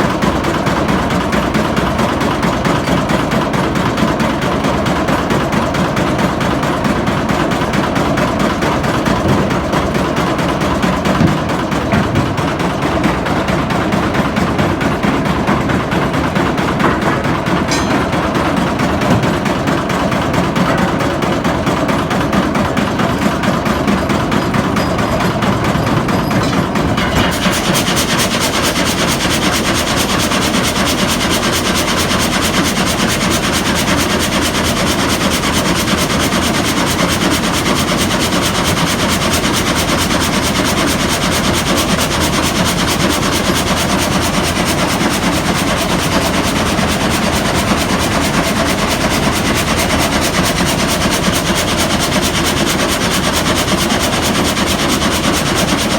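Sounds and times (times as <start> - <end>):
frame saw rhythmic clatter: 0.0 - 55.9.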